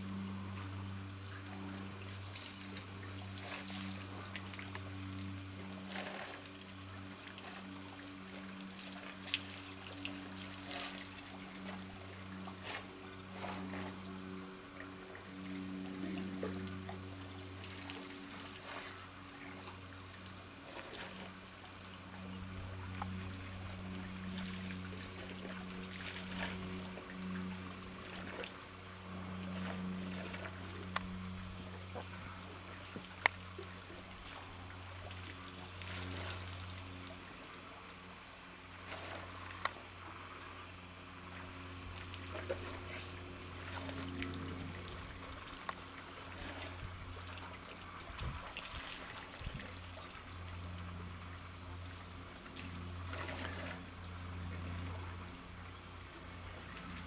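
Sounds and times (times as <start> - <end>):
trickling water: 0.0 - 38.0, 38.6 - 57.0
low mechanical hum: 0.0 - 57.0.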